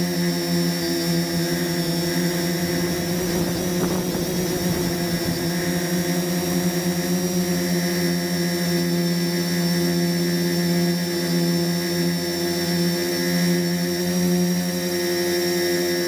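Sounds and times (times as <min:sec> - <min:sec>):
quadcopter propellers whining: 0:00.0 - 0:16.0.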